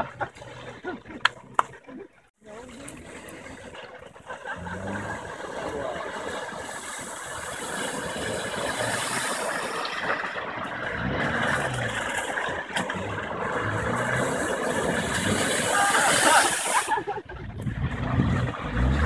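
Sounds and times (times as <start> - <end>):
car engines running: 0.0 - 16.4
water splashing from wheels: 0.0 - 19.0.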